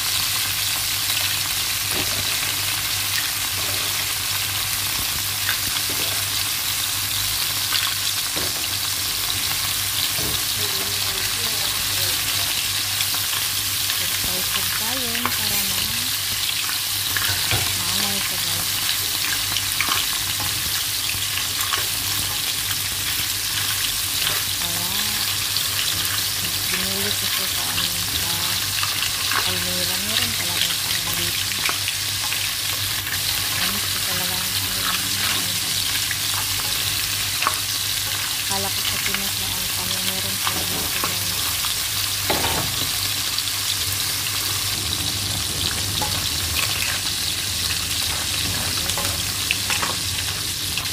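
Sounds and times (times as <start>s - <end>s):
mussels sizzling in frying pan: 0.0s - 50.9s.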